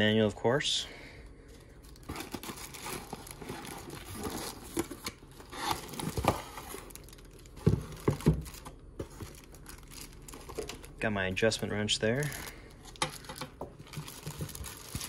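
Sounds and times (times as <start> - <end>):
plastic bag crinkling: 1.8 - 15.0.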